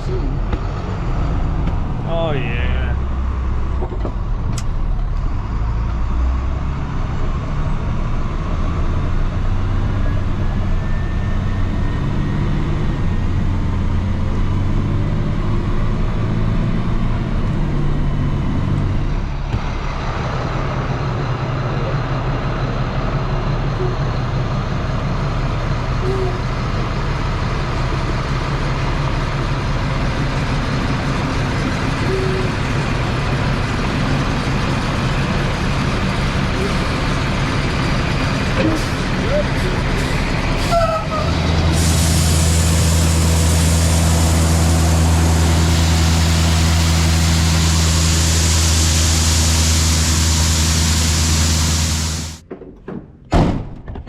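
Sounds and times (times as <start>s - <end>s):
truck engine running: 0.0s - 52.5s.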